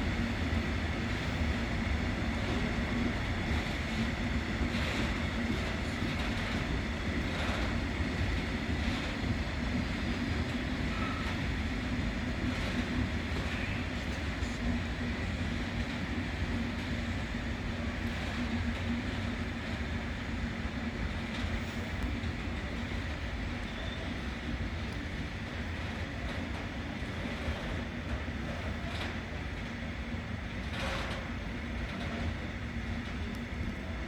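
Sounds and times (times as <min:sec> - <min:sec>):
freight train rolling by: 0:00.0 - 0:34.0.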